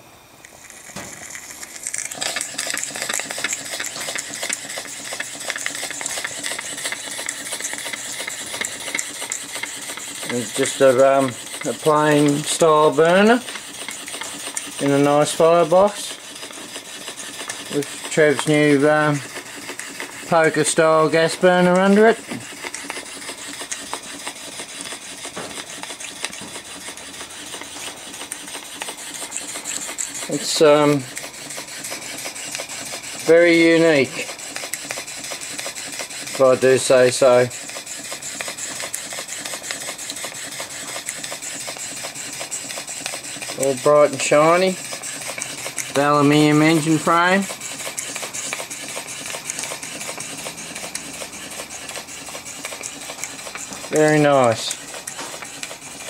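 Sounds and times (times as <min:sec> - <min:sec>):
model steam engine clattering: 0:00.6 - 0:56.0.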